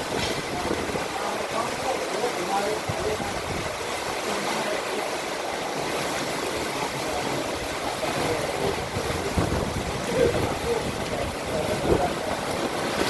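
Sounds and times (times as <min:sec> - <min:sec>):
heavy rain in strong wind: 0:00.0 - 0:13.0.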